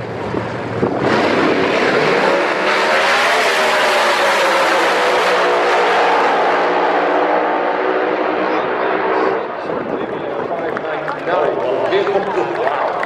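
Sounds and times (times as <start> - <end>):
racing car accelerating: 0.5 - 12.0.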